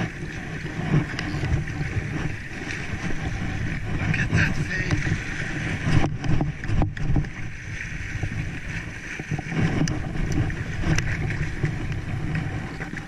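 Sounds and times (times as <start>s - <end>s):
sea water washing against rocks: 0.0s - 13.0s
wind buffeting microphone: 0.0s - 13.0s.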